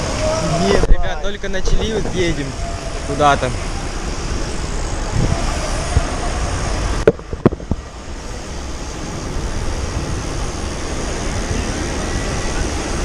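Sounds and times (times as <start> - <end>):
wind rushing over microphone: 0.0 - 13.0
bike rolling noise: 1.6 - 13.0.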